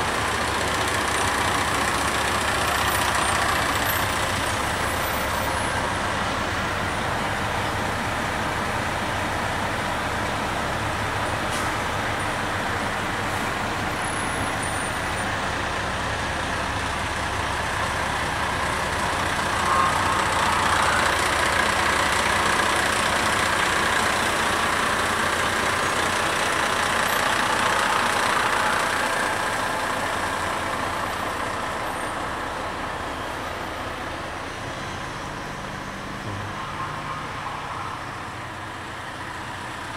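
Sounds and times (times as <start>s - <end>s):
fire engine rumbling: 0.0s - 39.9s.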